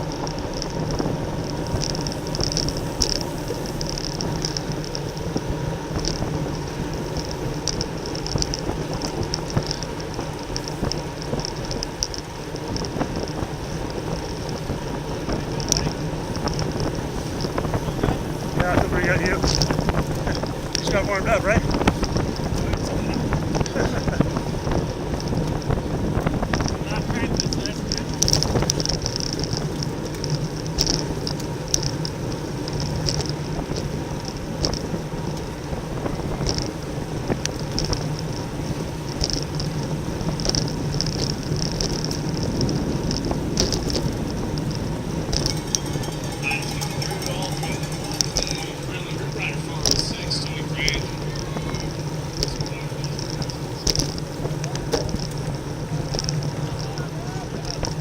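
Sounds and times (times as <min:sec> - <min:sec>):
bicycle tyre noise: 0:00.0 - 0:58.0
wind rushing over microphone: 0:00.0 - 0:58.0
light ticks: 0:00.1 - 0:05.2, 0:06.0 - 0:22.9, 0:23.5 - 0:35.5, 0:37.3 - 0:58.0
light clicks and rattles: 0:06.0 - 0:58.0.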